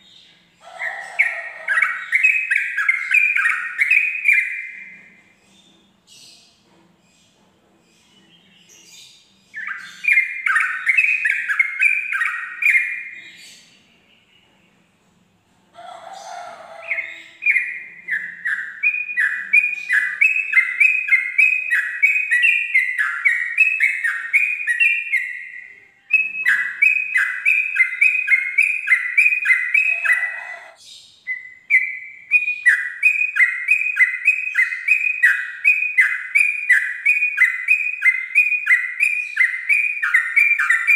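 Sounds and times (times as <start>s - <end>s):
bird singing whistled notes: 0.0s - 5.2s, 8.0s - 14.5s, 16.3s - 40.9s.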